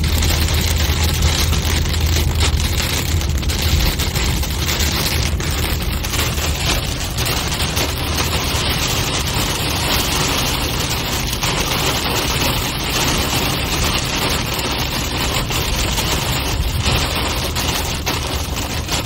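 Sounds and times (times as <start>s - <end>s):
car rumbling on highway: 0.0s - 19.0s
heavy rain on car roof: 0.0s - 19.0s.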